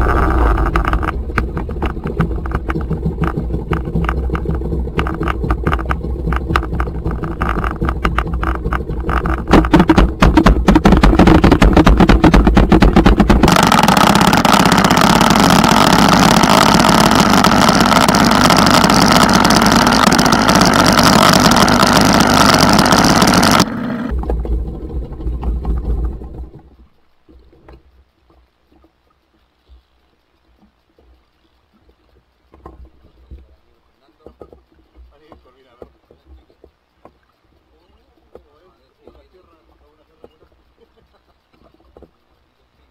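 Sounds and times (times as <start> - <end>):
outboard motor running: 0.0 - 42.9
water noise: 0.0 - 42.9.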